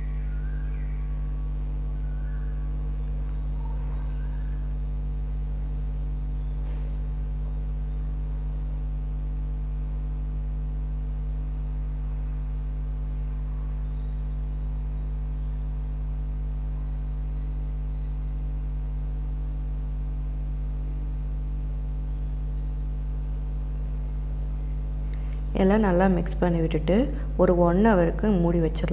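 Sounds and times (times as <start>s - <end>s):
low electrical hum: 0.0s - 28.9s.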